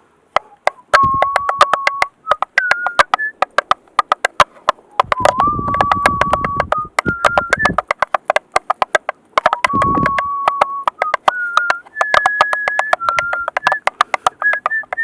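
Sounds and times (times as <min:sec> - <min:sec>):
steady held tone: 0:00.4 - 0:03.6, 0:04.9 - 0:08.1, 0:09.4 - 0:15.0
tap shoes on hard floor: 0:00.7 - 0:15.0.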